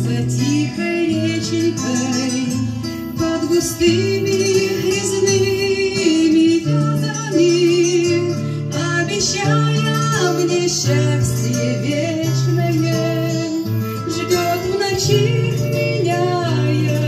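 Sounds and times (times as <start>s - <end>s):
guitar accompaniment: 0.0s - 17.0s
woman singing into microphone: 0.0s - 17.0s.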